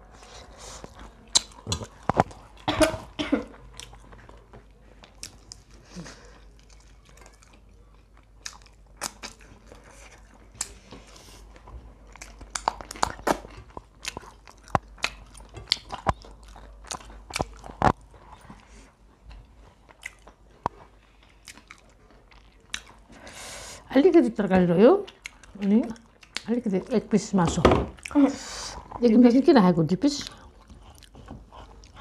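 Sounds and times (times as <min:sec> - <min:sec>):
crunchy chewing of fried chicken: 0:00.0 - 0:23.7, 0:25.1 - 0:26.6, 0:30.2 - 0:32.0.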